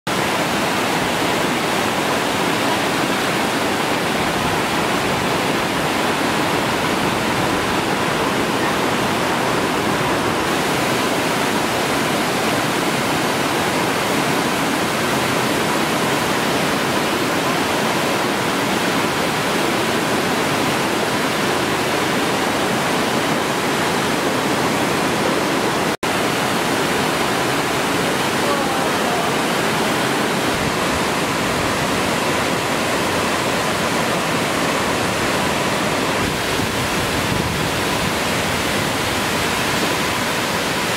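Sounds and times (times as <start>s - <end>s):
waterfall rushing: 0.1s - 40.9s.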